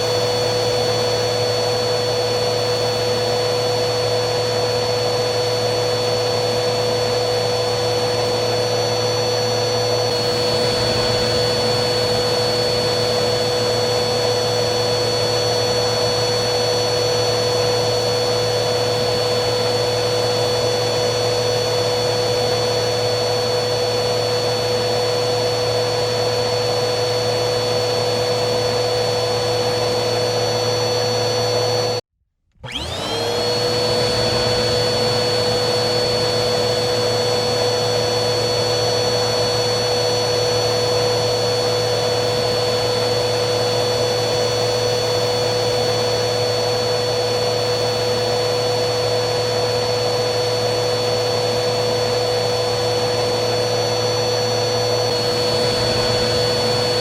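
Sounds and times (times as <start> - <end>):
vacuum cleaner motor whining: 0.0 - 57.0.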